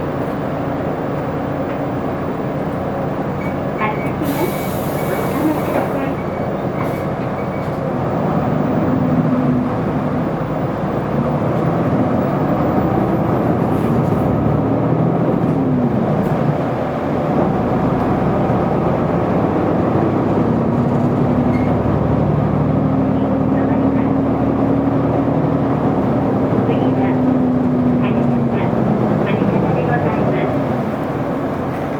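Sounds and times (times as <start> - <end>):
bus diesel engine running: 0.0 - 31.9.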